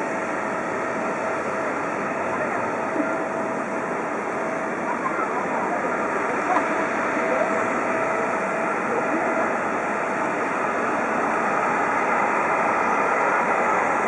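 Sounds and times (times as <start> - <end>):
faint engine whine: 0.0 - 14.0
jet engines rushing: 0.0 - 14.0.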